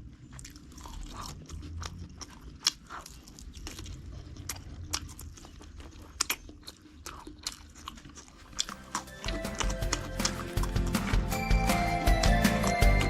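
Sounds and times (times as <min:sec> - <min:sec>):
chewing crunchy food: 0:00.0 - 0:13.0.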